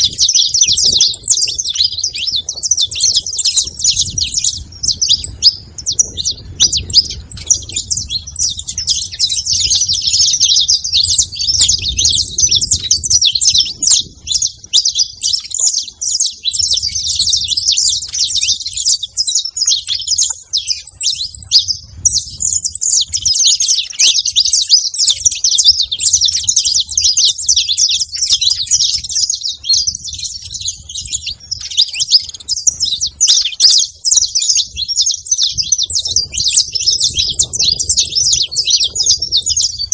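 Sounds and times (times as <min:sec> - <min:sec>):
flock of finches chirping: 0:00.0 - 0:39.9.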